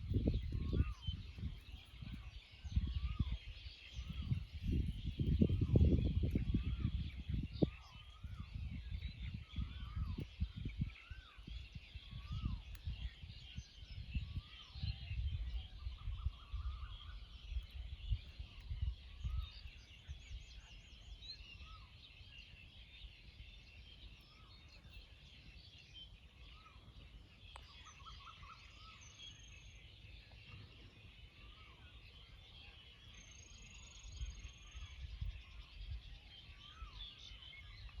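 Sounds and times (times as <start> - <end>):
birds chirping and trilling: 0.0 - 38.0
wind buffeting microphone: 0.0 - 38.0.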